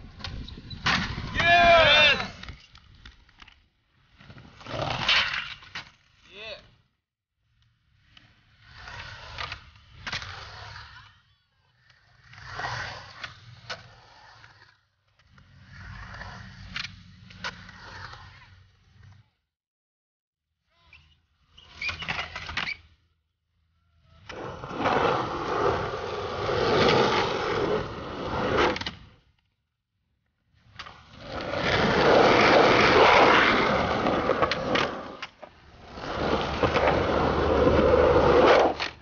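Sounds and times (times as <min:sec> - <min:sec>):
skateboard wheels rolling on concrete: 0:00.0 - 0:19.5, 0:24.0 - 0:39.0.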